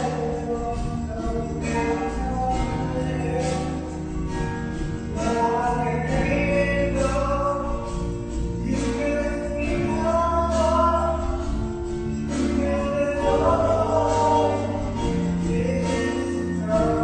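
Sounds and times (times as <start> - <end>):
song with sung vocals: 0.0 - 17.0.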